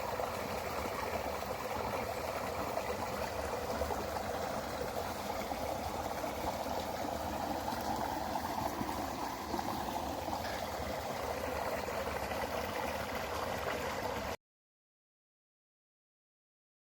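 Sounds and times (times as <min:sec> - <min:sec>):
stream water burbling: 0:00.0 - 0:14.4.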